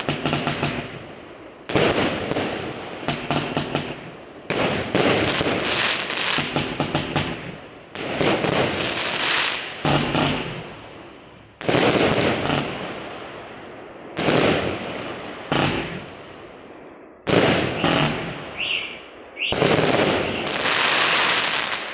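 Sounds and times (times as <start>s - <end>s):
firework bangs and crackles: 0.0s - 21.9s.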